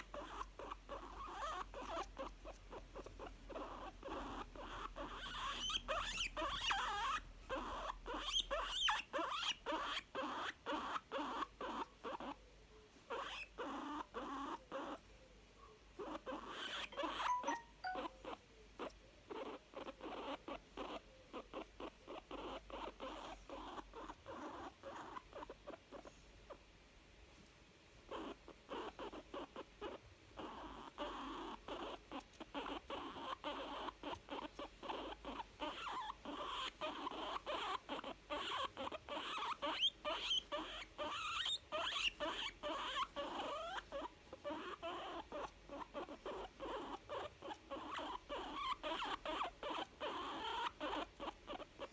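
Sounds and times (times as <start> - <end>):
guinea pig contented sounds: 0.0 - 51.9.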